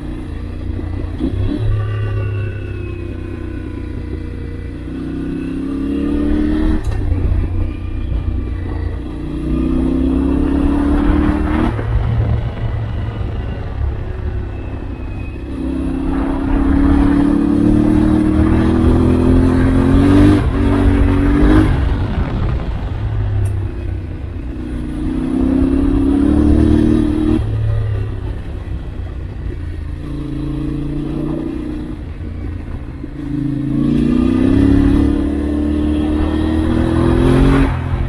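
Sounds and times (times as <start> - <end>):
steady low rumble: 0.0 - 34.6
motorcycle engine revving: 0.0 - 38.0.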